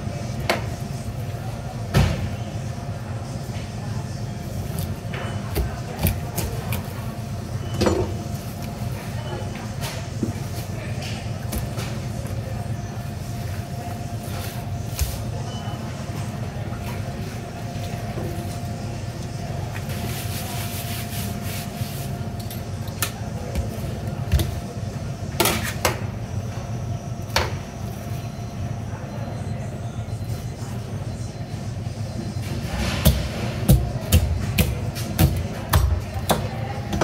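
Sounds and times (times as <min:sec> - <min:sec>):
low machinery hum: 0:00.0 - 0:37.0.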